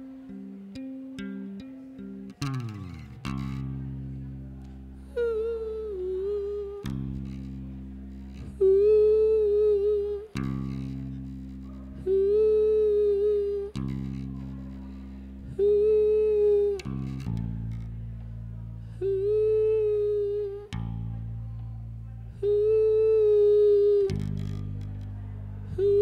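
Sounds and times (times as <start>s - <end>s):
low held bass notes: 0.0s - 26.0s.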